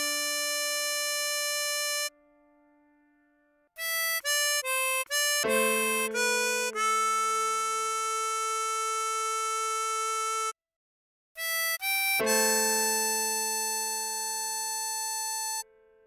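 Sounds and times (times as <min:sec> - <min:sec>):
tremolo harmonica melody: 0:00.0 - 0:02.2, 0:03.8 - 0:10.6, 0:11.4 - 0:15.7.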